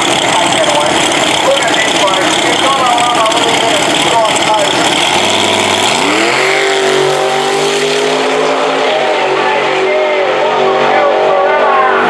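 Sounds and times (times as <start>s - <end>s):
racing engines at full throttle: 0.0s - 12.0s.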